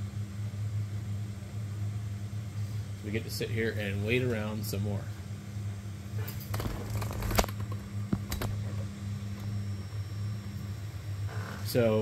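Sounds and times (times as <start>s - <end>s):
printer fans humming: 0.0s - 12.0s.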